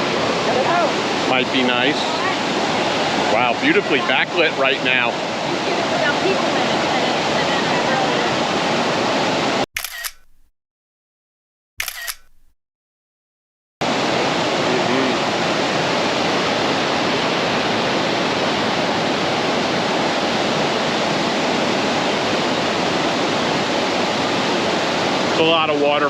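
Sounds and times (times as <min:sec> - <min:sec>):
waterfall rushing: 0:00.0 - 0:09.6, 0:13.8 - 0:26.0.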